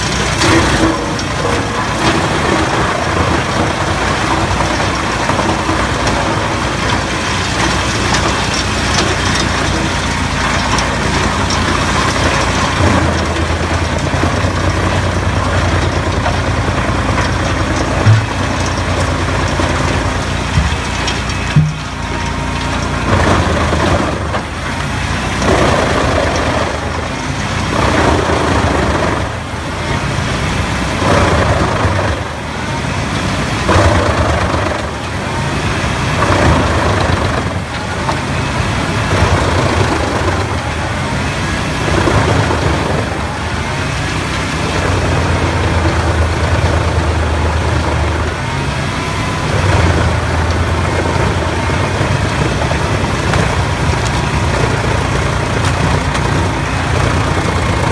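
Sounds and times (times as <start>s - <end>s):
low engine drone: 0.0s - 57.9s
wood chipper shredding wood: 0.0s - 57.9s.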